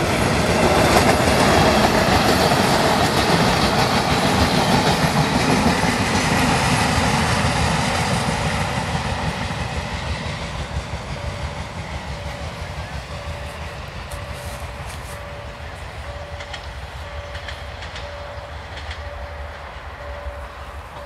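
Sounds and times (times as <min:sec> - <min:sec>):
diesel railcar engine: 0:00.0 - 0:21.0
train wheels on rails: 0:00.0 - 0:21.0.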